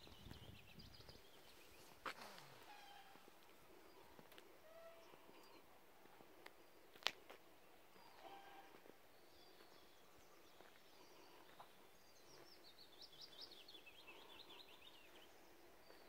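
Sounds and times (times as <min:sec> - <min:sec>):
quiet outdoor hiss: 0:00.0 - 0:16.0
songbird singing: 0:00.0 - 0:16.0.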